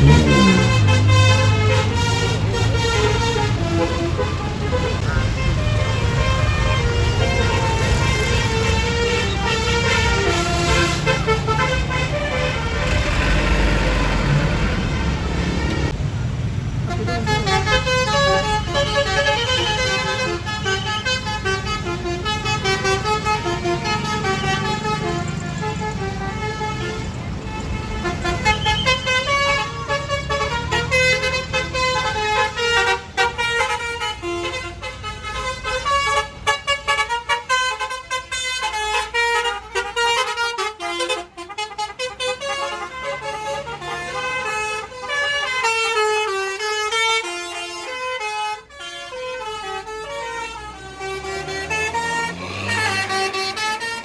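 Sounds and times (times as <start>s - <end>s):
musical horn playing a tune: 0.0s - 15.9s, 16.9s - 54.0s
engine and road rumble: 0.0s - 54.0s.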